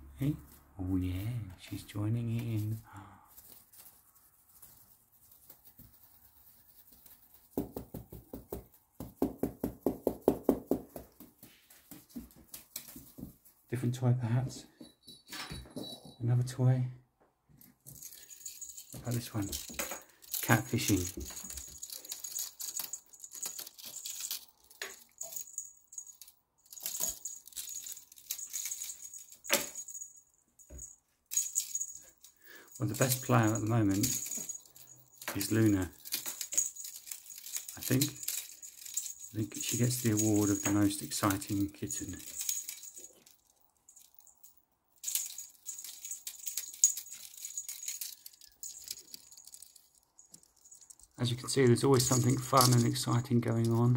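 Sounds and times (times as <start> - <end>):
cat toy jingling and rattling: 0.4 - 13.7, 14.7 - 16.2, 17.8 - 53.9.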